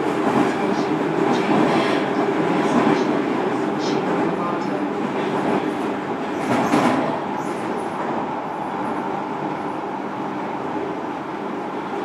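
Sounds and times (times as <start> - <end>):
electric train interior noise: 0.0 - 12.0.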